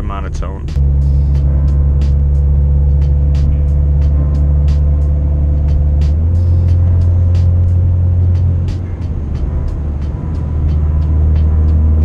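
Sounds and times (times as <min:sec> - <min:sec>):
car engine droning inside cabin: 0:00.0 - 0:12.0.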